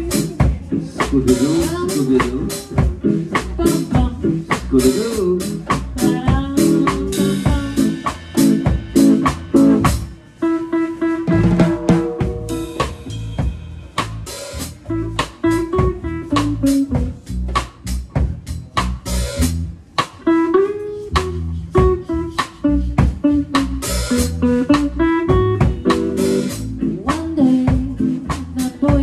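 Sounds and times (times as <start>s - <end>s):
guitar: 0.0s - 29.0s.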